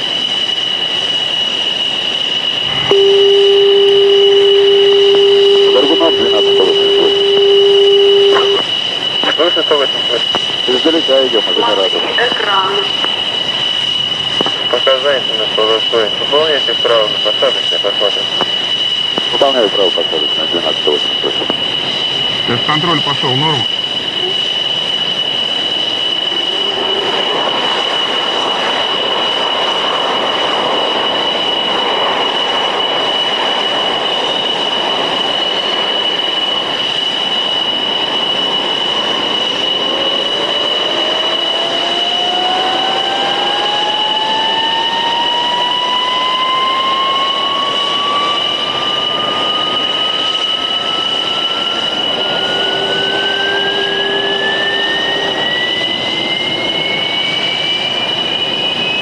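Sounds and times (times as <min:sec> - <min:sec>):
jet engine whine: 0:00.0 - 0:59.0
rising turbine whine: 0:00.0 - 0:59.0.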